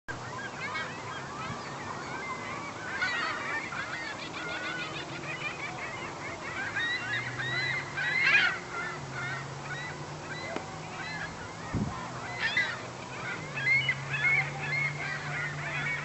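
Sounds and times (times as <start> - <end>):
flock of gulls calling: 0.1 - 16.0.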